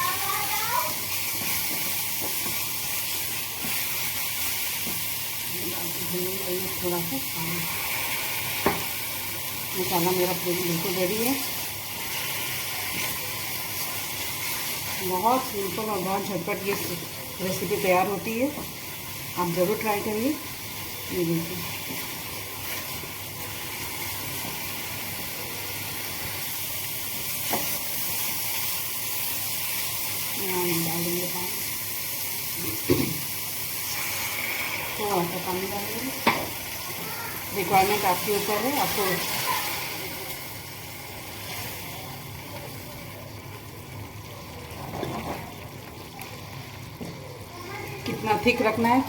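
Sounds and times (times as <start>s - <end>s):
masala sizzling in a pan: 0.0s - 49.0s.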